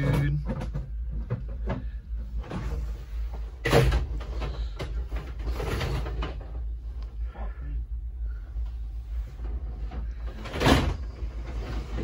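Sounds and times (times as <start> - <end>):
scraping and clunks: 0.0 - 7.6, 8.6 - 12.0.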